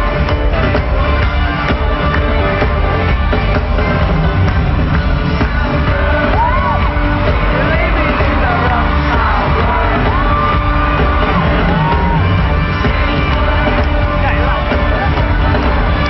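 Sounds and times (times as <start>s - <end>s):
fans screaming and whooping: 0.0s - 16.0s
live pop band music: 0.0s - 16.0s.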